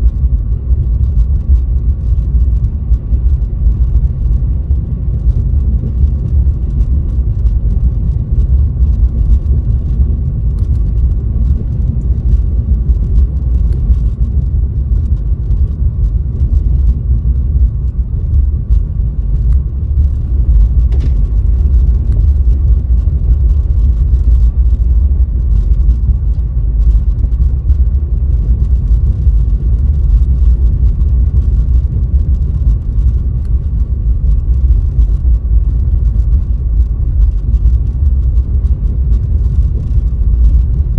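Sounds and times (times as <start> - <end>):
road and engine rumble: 0.0 - 40.9.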